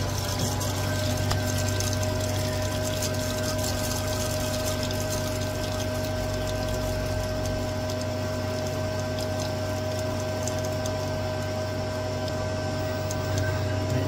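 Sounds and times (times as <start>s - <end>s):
coolant pump humming: 0.0s - 14.0s.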